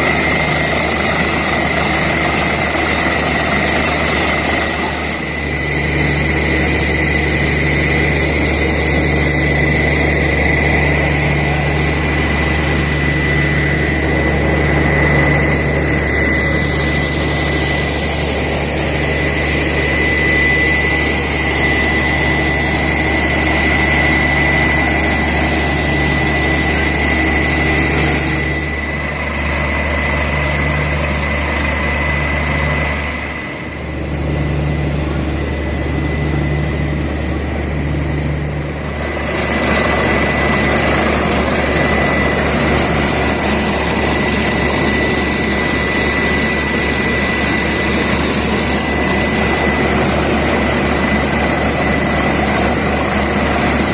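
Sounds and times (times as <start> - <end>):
drilling rig engine rumble: 0.0 - 53.9
thin high whine: 0.0 - 53.9.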